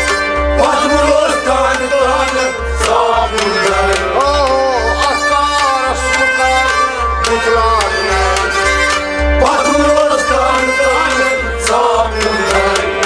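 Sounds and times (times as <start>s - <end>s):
hand drum percussion: 0.0s - 13.0s
pitch-bending folk melody: 0.0s - 13.0s
person singing: 0.6s - 13.0s.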